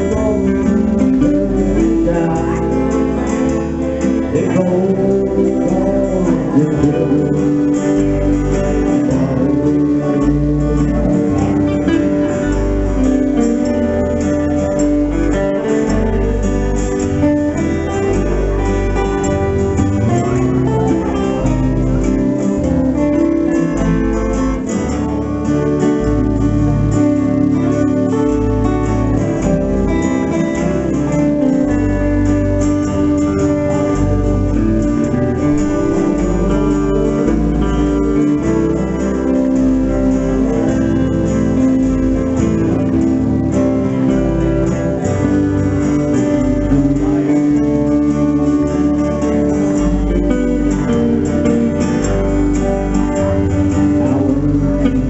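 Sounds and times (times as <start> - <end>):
acoustic guitars strumming: 0.0 - 55.0
electric bass line: 0.0 - 55.0
electric guitar: 0.0 - 55.0.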